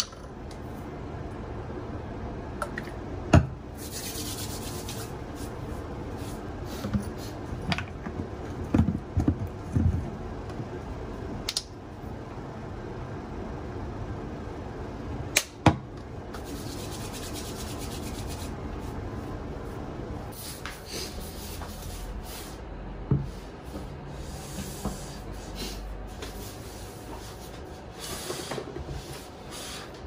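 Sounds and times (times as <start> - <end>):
room noise: 0.0 - 30.0.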